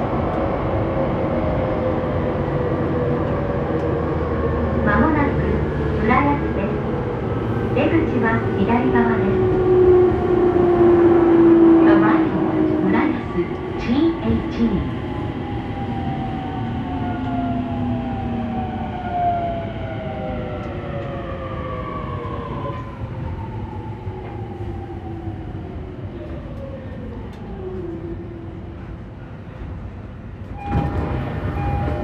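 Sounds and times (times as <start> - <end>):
wheels rumbling on rail: 0.0 - 32.0.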